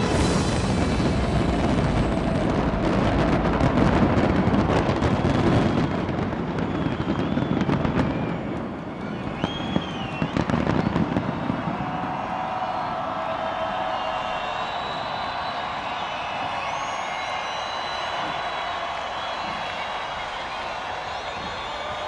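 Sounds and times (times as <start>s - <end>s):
fireworks crackling barrage: 0.0s - 22.0s
high firework whistles: 0.0s - 22.0s.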